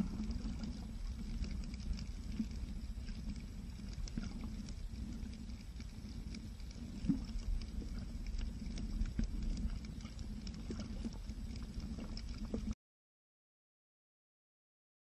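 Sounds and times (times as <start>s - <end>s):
faint clicks and ticks: 0.0s - 12.8s
low underwater rumble: 0.0s - 12.8s.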